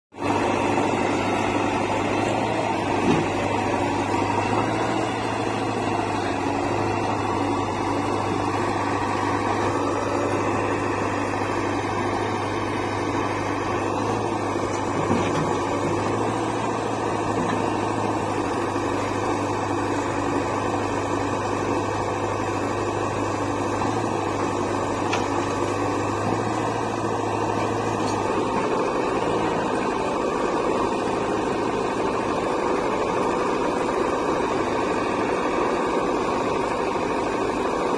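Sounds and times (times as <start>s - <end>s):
diesel engines idling: 0.2s - 37.9s.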